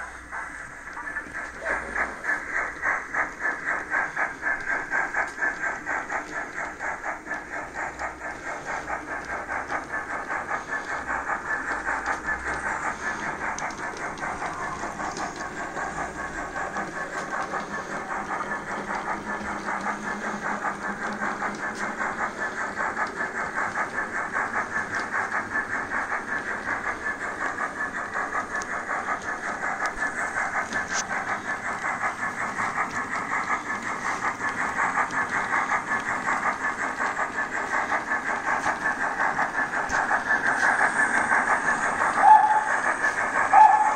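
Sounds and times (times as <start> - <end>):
model train running on track: 0.0 - 43.9.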